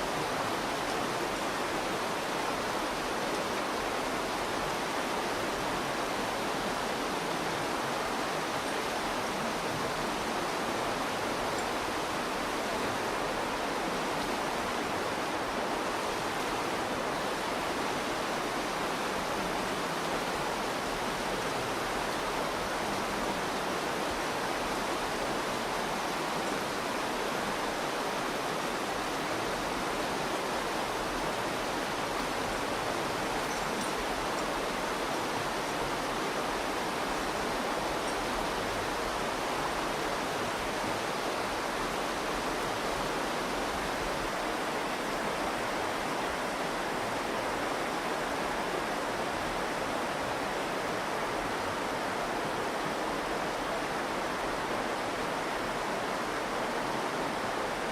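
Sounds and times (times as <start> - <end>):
river rushing: 0.0 - 57.9.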